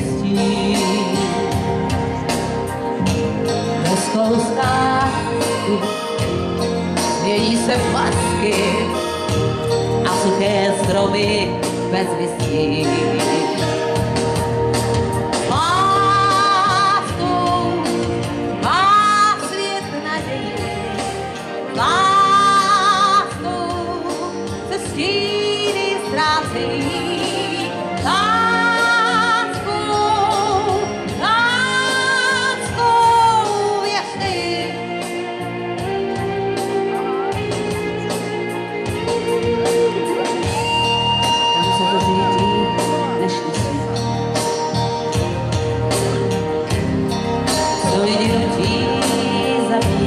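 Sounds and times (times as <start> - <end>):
woman singing into microphone: 0.0 - 14.2, 14.9 - 44.6, 47.6 - 50.0
backing music: 0.0 - 50.0.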